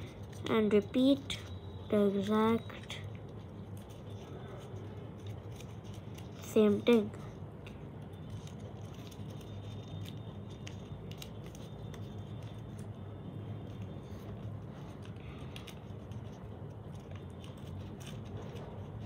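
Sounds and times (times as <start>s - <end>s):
paper rustling and crinkling: 2.1s - 19.0s.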